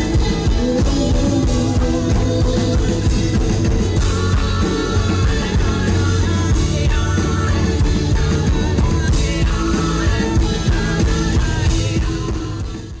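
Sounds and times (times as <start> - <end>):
drums: 0.0 - 13.0
guitar: 0.0 - 13.0
person singing: 0.0 - 13.0.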